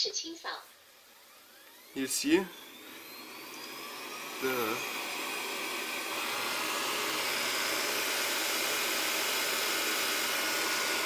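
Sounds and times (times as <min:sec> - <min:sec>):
robot vacuum suction fan whooshing: 0:01.2 - 0:11.0.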